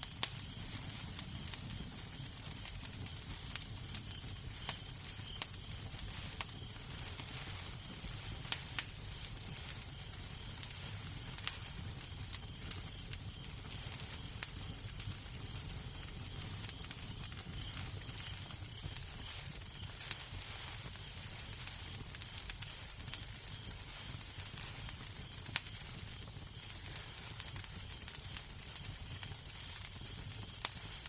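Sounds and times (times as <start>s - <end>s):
soft hiss: 0.0s - 31.0s
wood fire crackling and popping: 0.0s - 31.0s.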